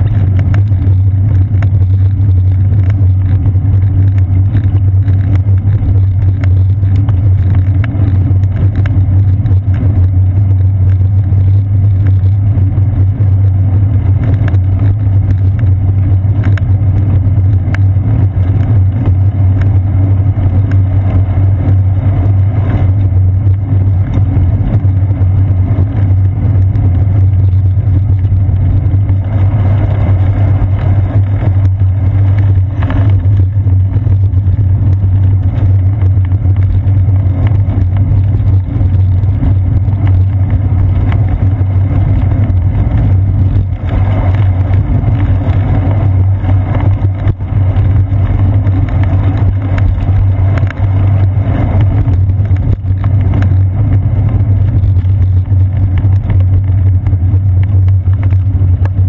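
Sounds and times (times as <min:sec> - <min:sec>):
road vibration rumble: 0:00.0 - 0:59.0
wind rumble: 0:00.0 - 0:59.0.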